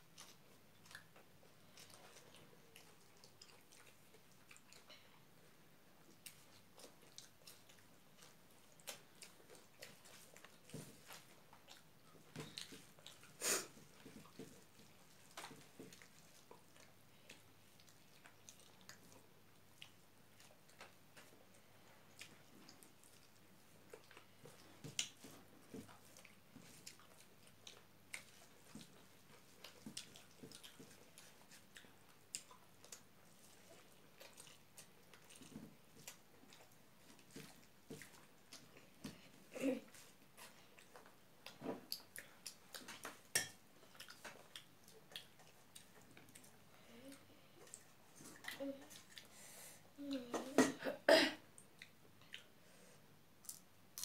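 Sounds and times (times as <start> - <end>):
mouths chewing: 0.0 - 5.0, 6.0 - 49.4.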